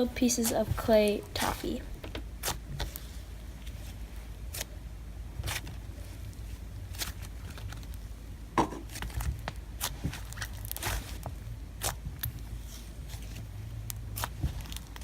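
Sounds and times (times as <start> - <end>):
low steady hum: 0.0 - 15.0
slime squishing and crackling: 0.0 - 15.0.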